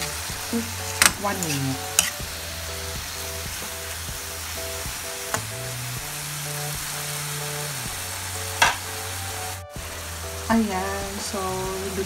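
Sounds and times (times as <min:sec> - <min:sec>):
food sizzling in a wok: 0:00.0 - 0:12.0
soft background music: 0:00.0 - 0:12.0.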